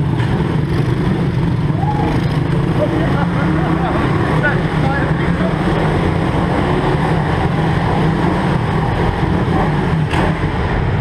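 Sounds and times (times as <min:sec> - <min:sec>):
pit bike engines droning: 0:00.0 - 0:11.0.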